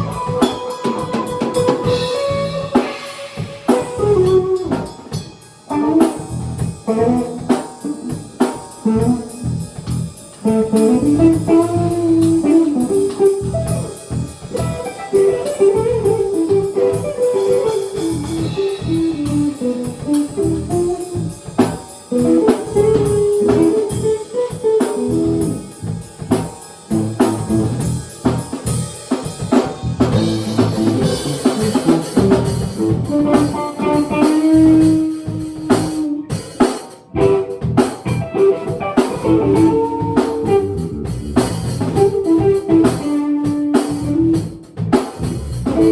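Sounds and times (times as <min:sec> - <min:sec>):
bluesy guitar melody: 0:00.0 - 0:27.8, 0:30.0 - 0:45.9
drum kit: 0:00.0 - 0:45.9.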